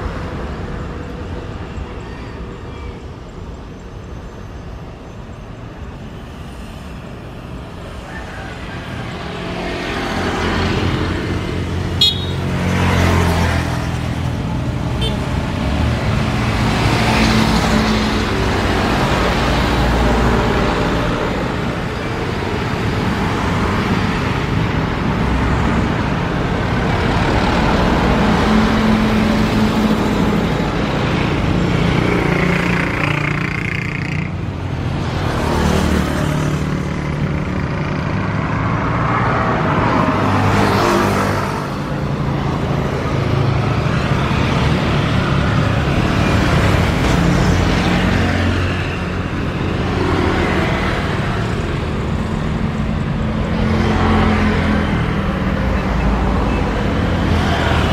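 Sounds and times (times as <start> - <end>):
engine noise: 0.0 - 57.9.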